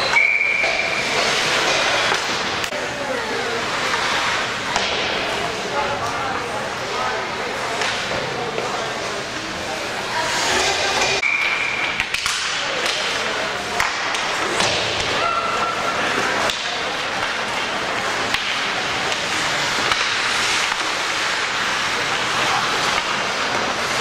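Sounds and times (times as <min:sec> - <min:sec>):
indistinct voices: 0:00.0 - 0:24.0.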